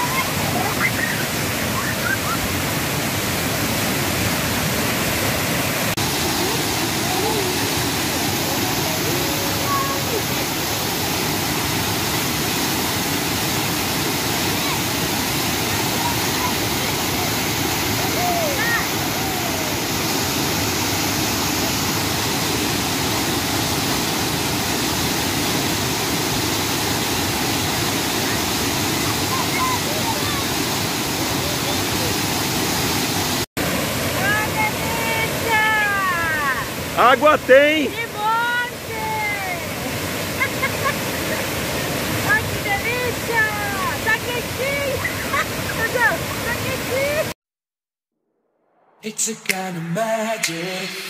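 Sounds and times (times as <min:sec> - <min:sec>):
waterfall rushing: 0:00.0 - 0:47.4, 0:49.0 - 0:51.0.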